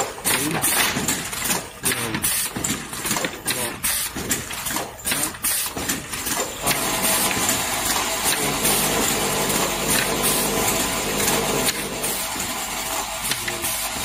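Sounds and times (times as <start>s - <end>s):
nailing machine running: 0.0s - 14.0s.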